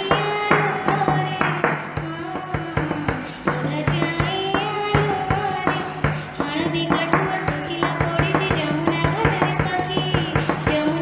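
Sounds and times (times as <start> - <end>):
child singing: 0.0 - 11.0
drum strokes: 0.0 - 11.0.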